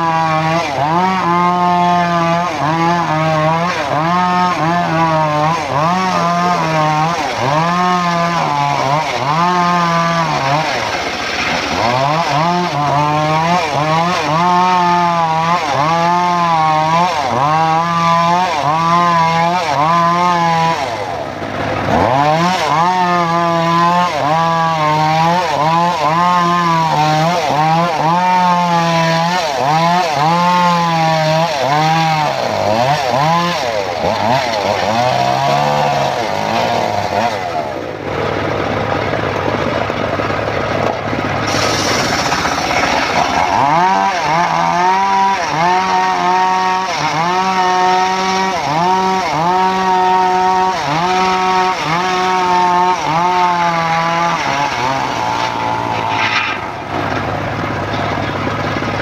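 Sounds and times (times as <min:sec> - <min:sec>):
engine labouring under load: 0:00.0 - 0:59.0
sawmill ripping log: 0:00.0 - 0:59.0.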